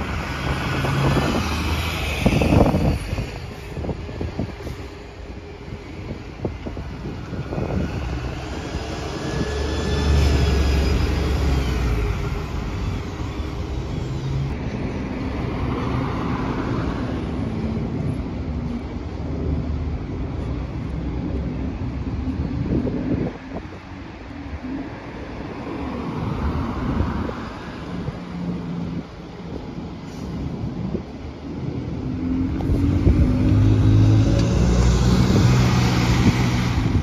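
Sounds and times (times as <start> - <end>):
bus diesel engine driving past: 0.0 - 37.0
bus engine noise: 0.0 - 37.0.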